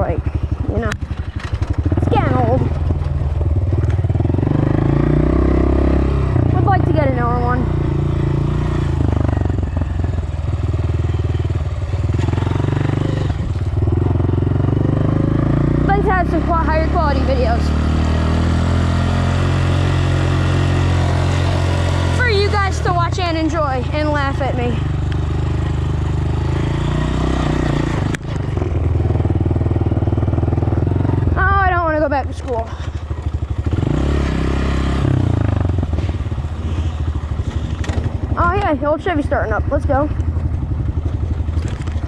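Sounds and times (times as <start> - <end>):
dirt bike engine running: 0.0 - 42.0.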